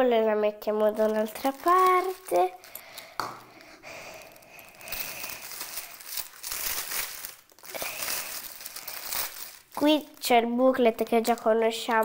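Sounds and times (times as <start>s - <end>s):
wrapping crackling: 0.6s - 12.0s.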